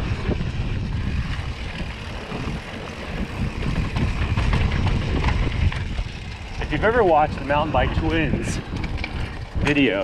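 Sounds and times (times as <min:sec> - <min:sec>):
bike rattling over bumps: 0:00.0 - 0:10.0
bike tyres on dirt: 0:00.0 - 0:10.0
wind on microphone: 0:00.0 - 0:10.0.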